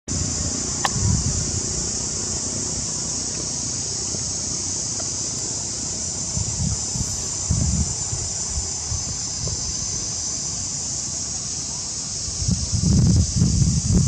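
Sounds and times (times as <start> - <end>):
insects shrilling: 0.1 - 14.0.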